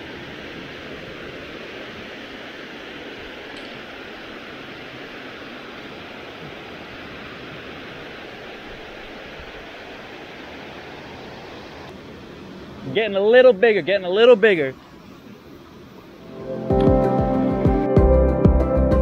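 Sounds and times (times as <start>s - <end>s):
river flowing: 0.0s - 17.9s
waterfall rushing: 0.0s - 17.9s.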